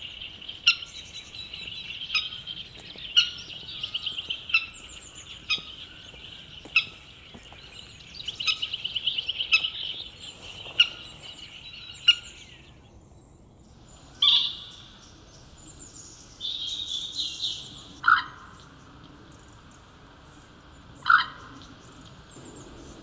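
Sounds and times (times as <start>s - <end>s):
sharp bird calls: 0.0s - 12.8s, 14.0s - 23.0s
small birds trilling: 0.0s - 23.0s.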